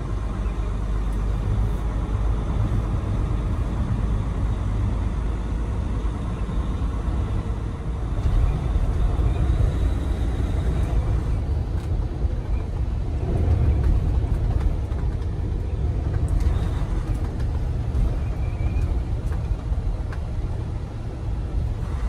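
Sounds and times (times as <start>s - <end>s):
truck engine and tyre rumble: 0.0s - 22.0s.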